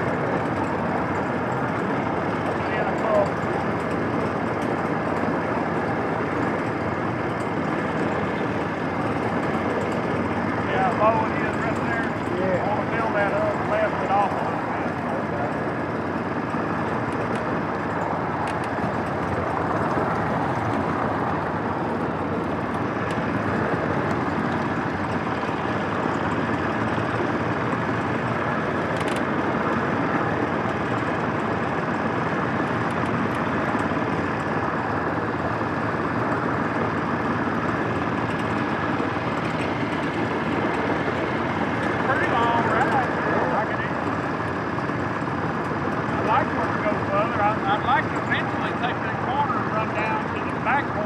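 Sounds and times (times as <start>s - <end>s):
miniature train running on track: 0.0s - 51.0s.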